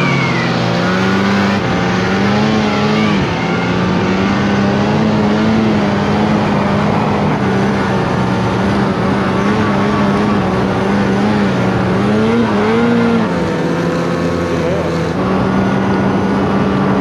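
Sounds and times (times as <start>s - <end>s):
snowmobile engine running hard: 0.0s - 17.0s.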